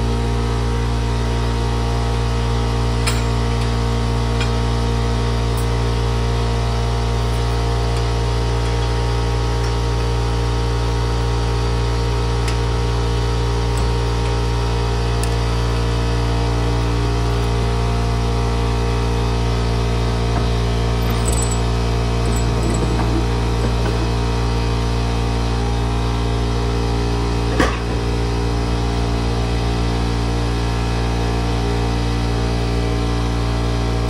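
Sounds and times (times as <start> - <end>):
mechanical hum with drone: 0.0 - 34.0.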